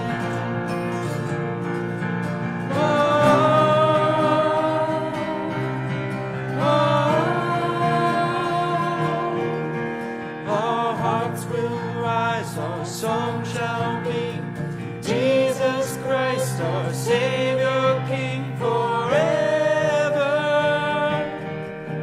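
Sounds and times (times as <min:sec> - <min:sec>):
person singing with vibrato: 0:00.0 - 0:00.9, 0:02.6 - 0:21.7
guitar accompaniment: 0:00.0 - 0:22.0.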